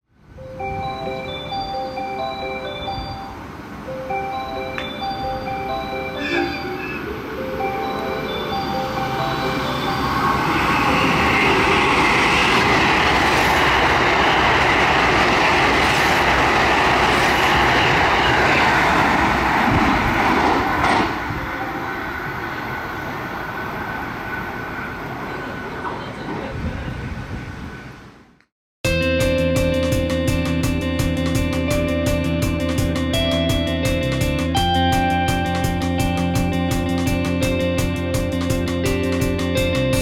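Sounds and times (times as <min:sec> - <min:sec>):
electric train passing at high speed: 0:00.1 - 0:40.0.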